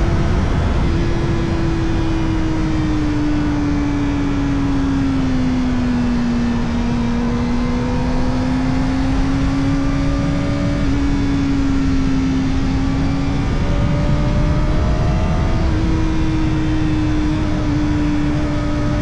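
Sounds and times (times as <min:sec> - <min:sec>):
motorcycle engine at high revs: 0:00.0 - 0:19.0
wind rush: 0:00.0 - 0:19.0.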